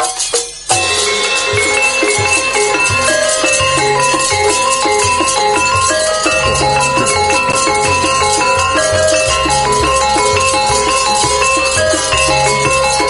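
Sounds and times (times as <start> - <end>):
metallophone and gong-chime notes: 0.0 - 13.0
low drum beat: 0.7 - 13.0.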